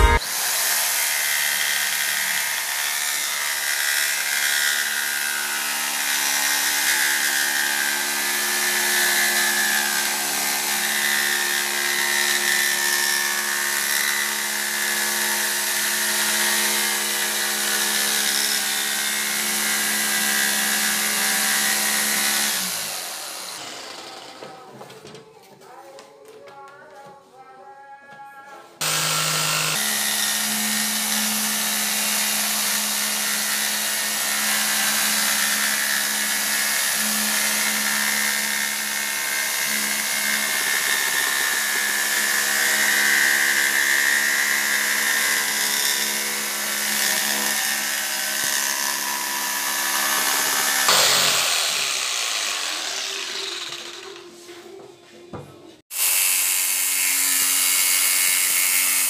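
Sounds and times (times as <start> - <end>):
electric jigsaw cutting wood: 0.0 - 24.6, 28.8 - 54.3, 55.9 - 59.0.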